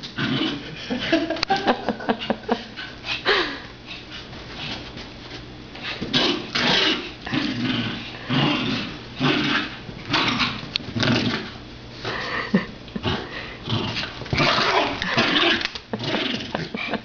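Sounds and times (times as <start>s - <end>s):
dogs play-growling: 0.0s - 1.3s, 2.0s - 17.0s.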